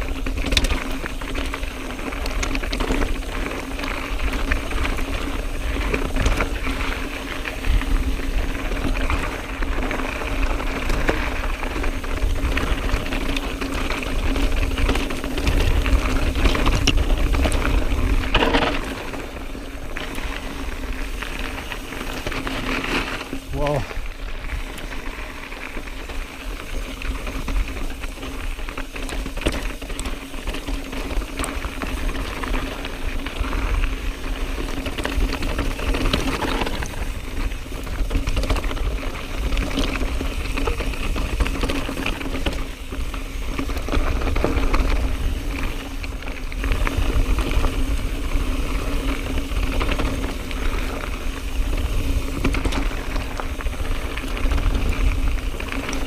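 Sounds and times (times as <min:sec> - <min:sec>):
bike chain and frame clattering: 0:00.0 - 0:56.0
tyres crunching on dirt: 0:00.0 - 0:56.0
wind rumble on microphone: 0:00.0 - 0:56.0.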